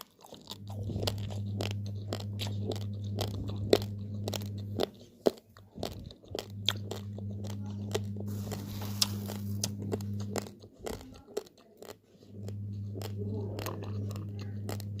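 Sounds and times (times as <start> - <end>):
rice grains crunched while chewing: 0.0 - 15.0
steady low hum: 0.0 - 15.0.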